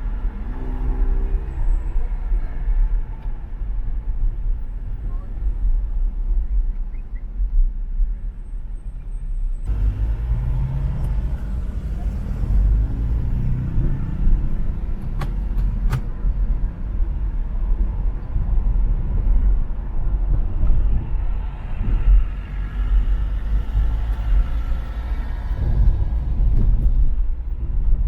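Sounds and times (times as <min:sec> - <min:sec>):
engine and tyre rumble: 0:00.0 - 0:28.0.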